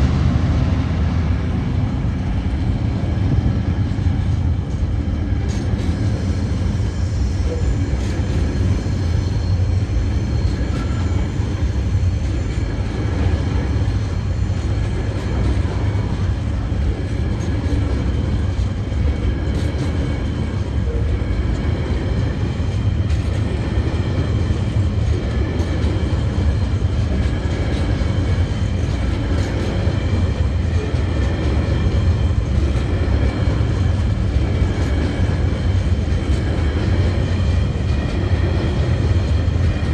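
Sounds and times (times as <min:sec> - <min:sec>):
freight train wheels rumbling on rails: 0:00.0 - 0:39.9
train wheel clicks: 0:04.6 - 0:39.9.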